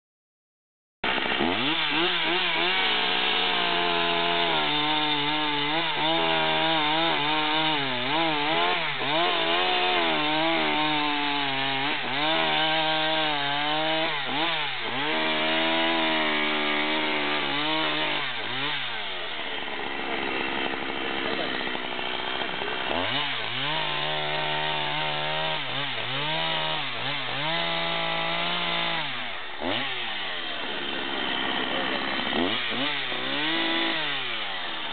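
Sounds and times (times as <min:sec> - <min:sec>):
chainsaw cutting log: 0:01.0 - 0:34.9.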